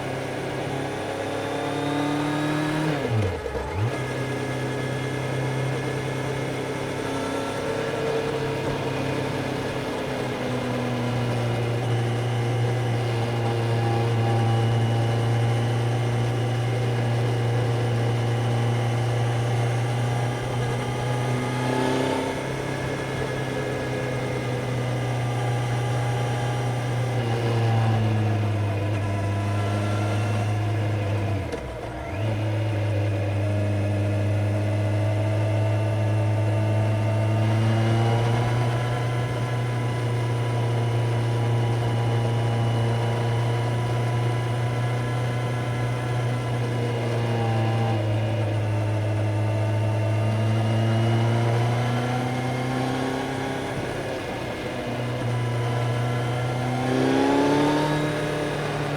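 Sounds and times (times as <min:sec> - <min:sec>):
motorcycle engine and exhaust: 0:00.0 - 0:58.9.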